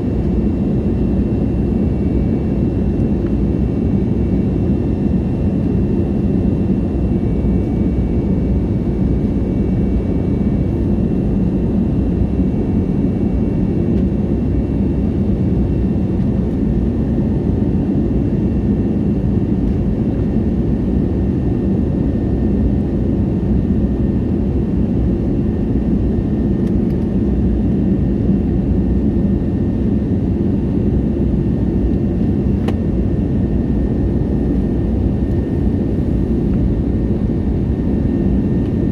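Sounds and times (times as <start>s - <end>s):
aircraft cabin engine rush: 0.0s - 38.9s.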